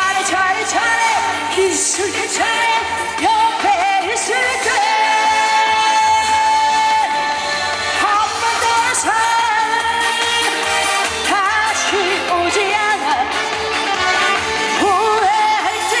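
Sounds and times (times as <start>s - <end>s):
loud backing music: 0.0s - 16.0s
woman singing with vibrato: 0.0s - 16.0s.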